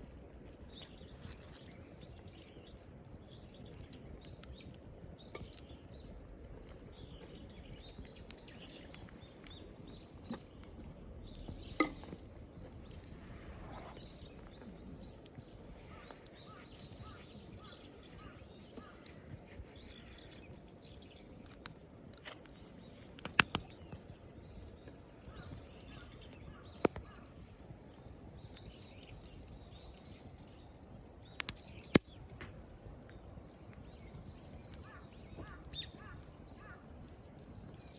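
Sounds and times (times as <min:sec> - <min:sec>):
campfire hissing: 0:00.0 - 0:37.9
firewood popping: 0:00.0 - 0:37.9.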